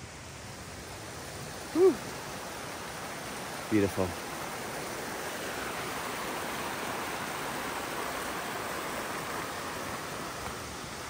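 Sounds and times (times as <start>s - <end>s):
brook running over rocks: 0.0s - 11.0s.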